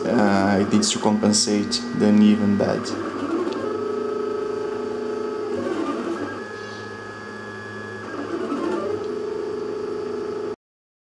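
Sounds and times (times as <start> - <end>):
stepper motors whining tones: 0.0 - 10.5.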